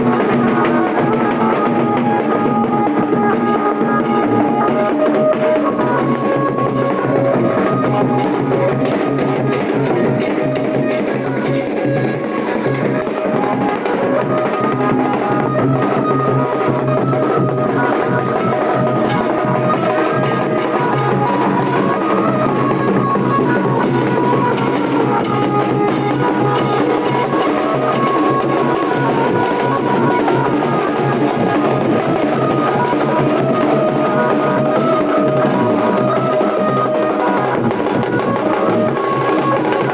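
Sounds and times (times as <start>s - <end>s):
dhol drumming fast rhythm: 0.0s - 39.9s
held melody line: 0.0s - 39.9s.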